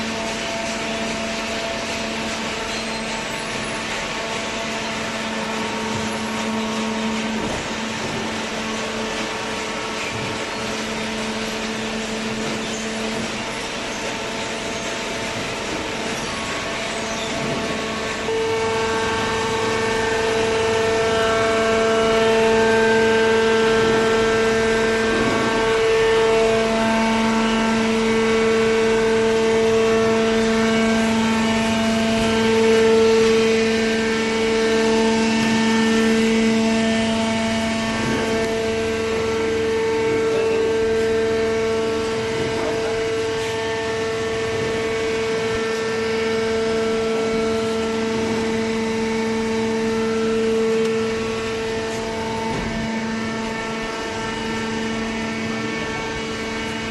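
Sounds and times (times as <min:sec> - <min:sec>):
shredder machinery humming whine: 0:00.0 - 0:56.9.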